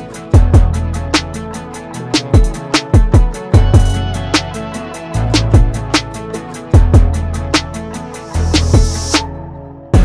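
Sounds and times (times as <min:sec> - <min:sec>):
music with steady beat and bass: 0:00.0 - 0:10.0.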